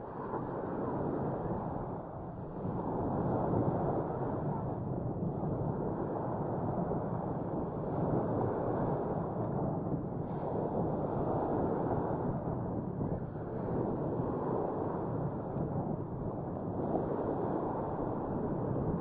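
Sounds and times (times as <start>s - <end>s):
wind buffeting microphone: 0.0s - 19.0s
surf on beach: 0.1s - 19.0s.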